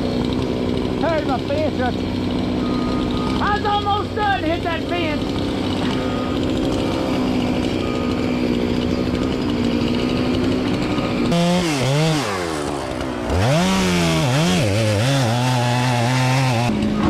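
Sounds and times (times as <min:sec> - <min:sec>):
chainsaw revving and cutting wood: 0:00.0 - 0:17.0.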